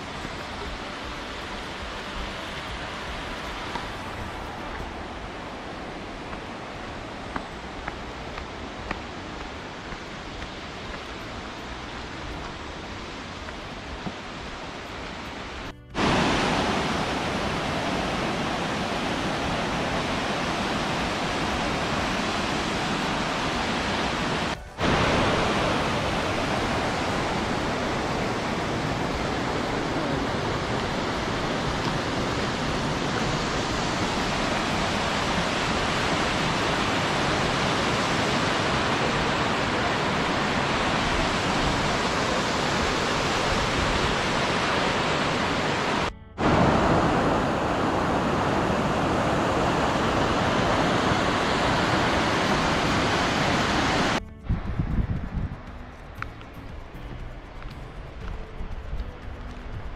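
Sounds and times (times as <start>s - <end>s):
rushing rocky river: 0.0s - 54.2s.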